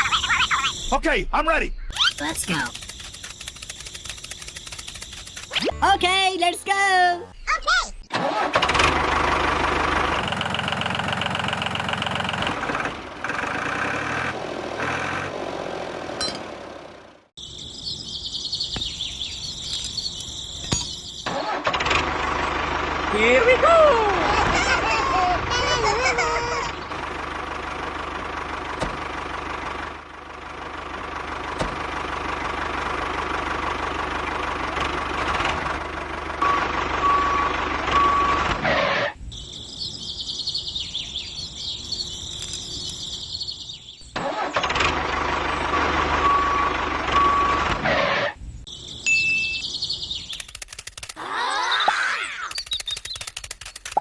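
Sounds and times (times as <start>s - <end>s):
tractor motor humming: 2.0s - 6.2s, 8.1s - 51.1s.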